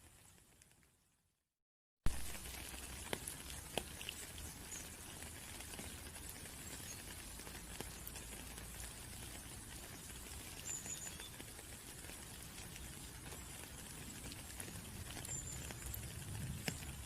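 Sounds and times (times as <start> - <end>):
rain pattering: 0.0 - 1.1, 2.1 - 17.0.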